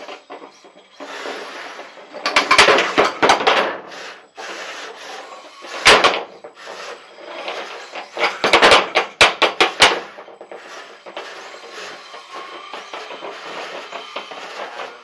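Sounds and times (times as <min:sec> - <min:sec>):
robots knocking and clattering: 0:00.0 - 0:03.8, 0:05.4 - 0:15.0.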